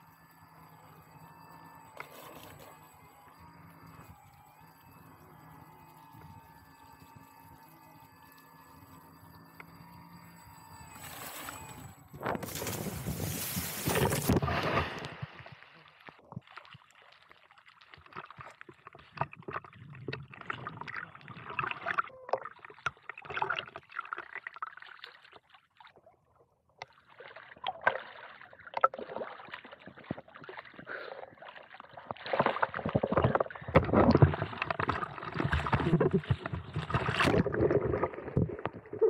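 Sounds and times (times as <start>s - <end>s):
water splashing and sloshing: 0.0s - 39.0s.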